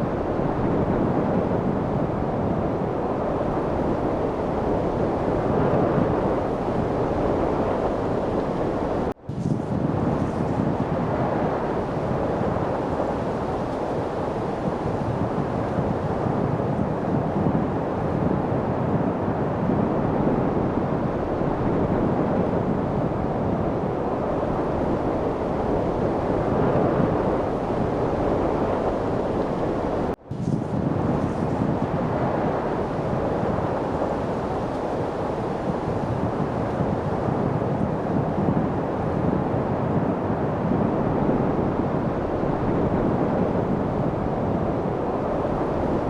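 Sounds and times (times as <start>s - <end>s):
steady wind rushing: 0.0s - 46.0s.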